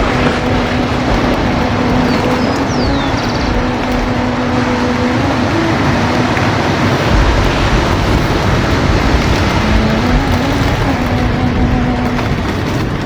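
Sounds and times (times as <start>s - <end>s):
low rumble: 0.0s - 13.0s
sea waves washing: 0.0s - 13.0s
steady low hum: 0.0s - 13.0s.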